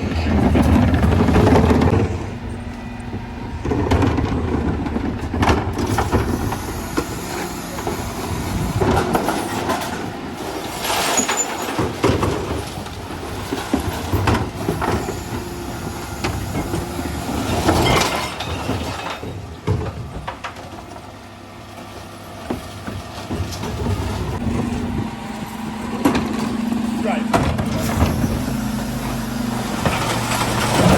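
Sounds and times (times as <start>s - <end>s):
bins and recyclables crashing: 0.0s - 2.4s, 3.5s - 30.9s
refuse lorry engine running: 0.0s - 30.9s.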